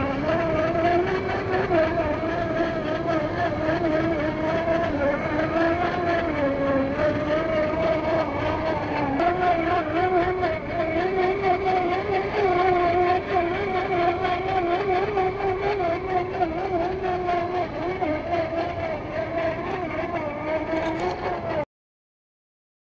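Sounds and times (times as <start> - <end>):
electric motor whining: 0.0 - 21.6.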